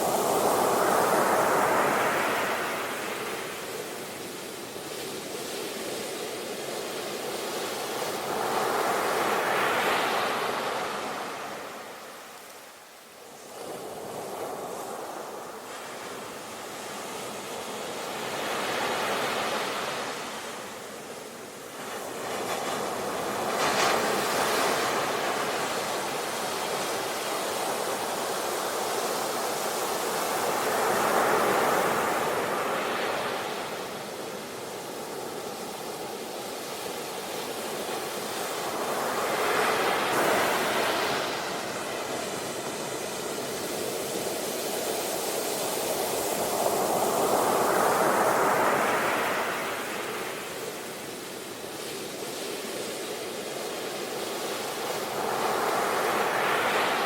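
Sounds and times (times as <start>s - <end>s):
sea waves washing in: 0.0s - 57.0s.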